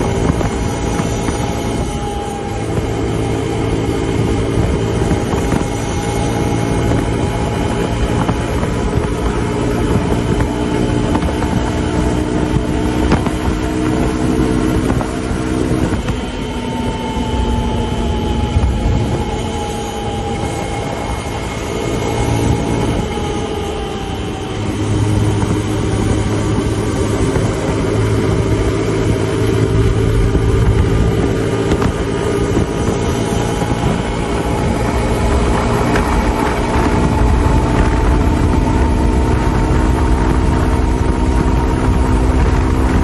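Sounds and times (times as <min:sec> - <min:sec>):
motorcycle engine running hard: 0:00.0 - 0:43.0
wind and road noise: 0:00.0 - 0:43.0.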